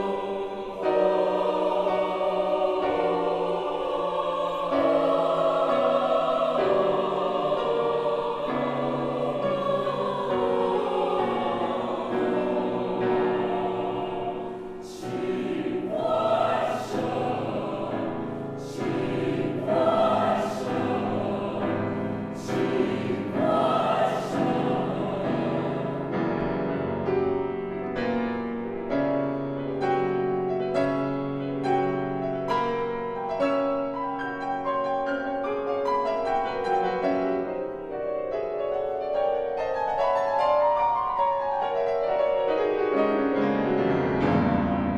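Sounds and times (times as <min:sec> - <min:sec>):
choir singing: 0:00.0 - 0:44.9
piano: 0:00.0 - 0:44.9.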